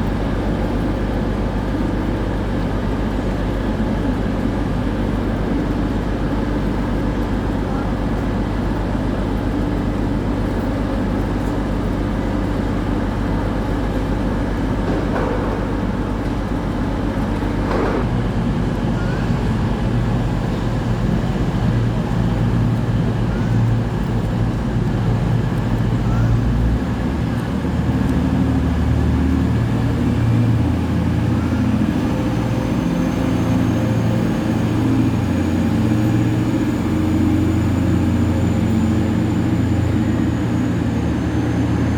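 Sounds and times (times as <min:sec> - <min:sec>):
train engine humming: 0:00.0 - 0:41.9.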